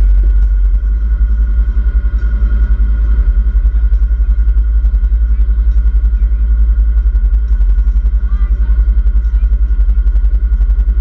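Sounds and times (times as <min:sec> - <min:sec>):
off-road buggy engine rumbling: 0:00.0 - 0:11.0.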